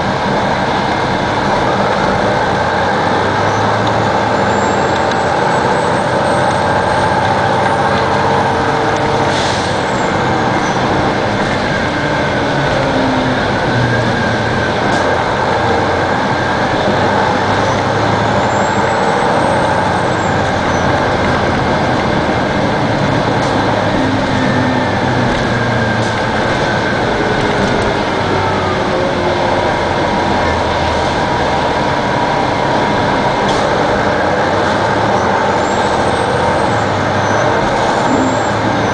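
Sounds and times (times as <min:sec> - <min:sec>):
bus engine accelerating: 0:00.0 - 0:38.9.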